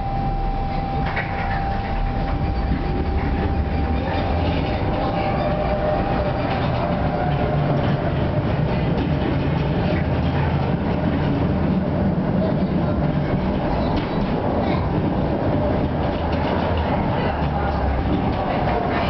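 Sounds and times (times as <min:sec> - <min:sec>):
tram electrical whine: 0:00.0 - 0:19.0
rumble of running gear: 0:00.1 - 0:19.0.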